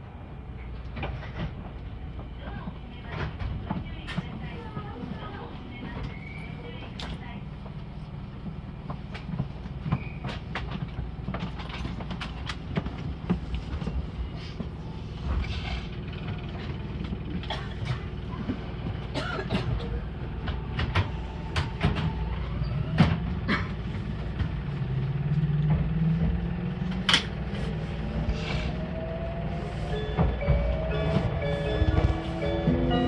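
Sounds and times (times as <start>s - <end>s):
train interior low rumble: 0.0s - 33.0s.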